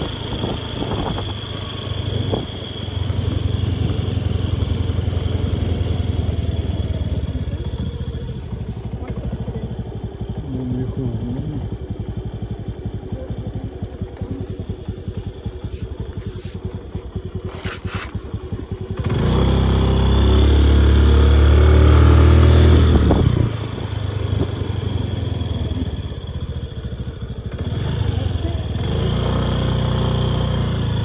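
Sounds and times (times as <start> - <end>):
motorbike engine running: 0.0 - 31.0.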